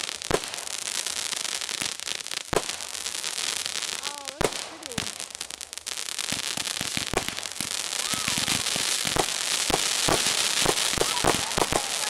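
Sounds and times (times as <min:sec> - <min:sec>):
fireworks crackling hiss: 0:00.0 - 0:12.0
fireworks popping and banging: 0:00.0 - 0:12.0.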